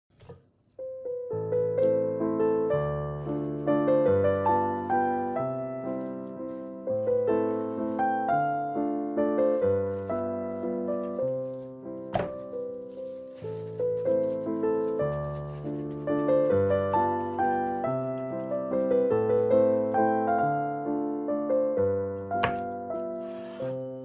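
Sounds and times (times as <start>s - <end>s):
slow piano music: 0.7s - 24.0s.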